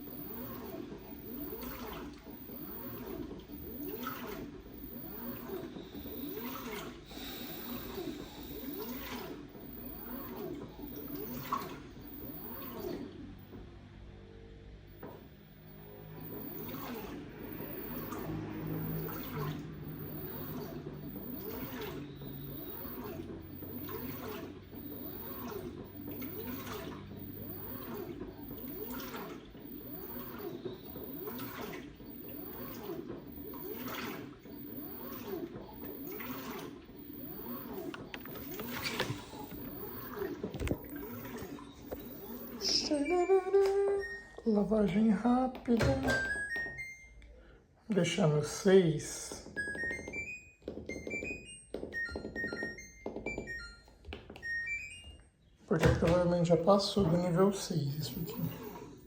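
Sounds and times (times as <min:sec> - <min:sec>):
washing machine water sloshing: 0:00.0 - 0:46.8, 0:55.7 - 0:59.0
low motor hum: 0:00.0 - 0:46.9, 0:55.8 - 0:59.0.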